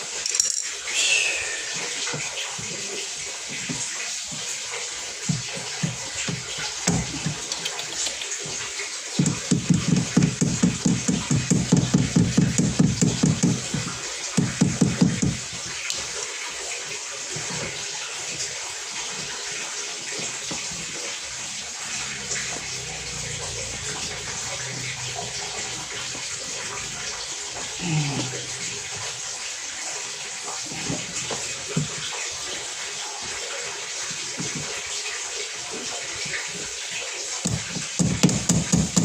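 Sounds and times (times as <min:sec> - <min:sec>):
water running: 0:00.0 - 0:39.0.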